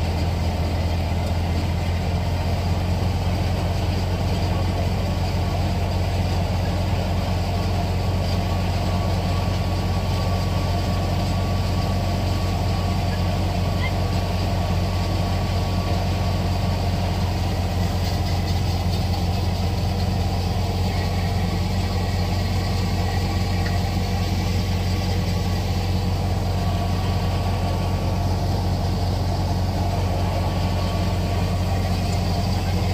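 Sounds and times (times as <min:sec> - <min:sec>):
thresher engine drone: 0:00.0 - 0:32.9.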